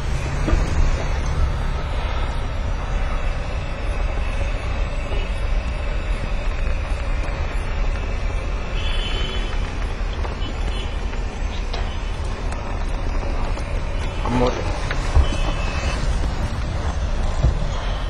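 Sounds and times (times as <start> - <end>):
moving vehicle rumbling: 0.0 - 18.0.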